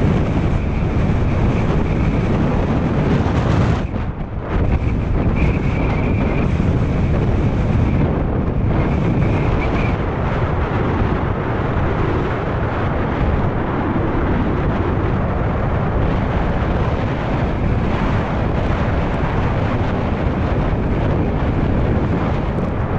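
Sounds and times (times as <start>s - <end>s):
wind on microphone: 0.0s - 22.9s.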